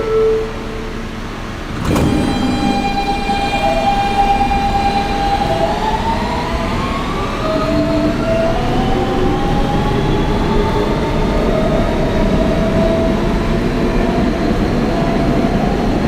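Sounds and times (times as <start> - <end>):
traction motor whine: 0.0 - 16.0
wheels rumbling on rail: 0.0 - 16.0.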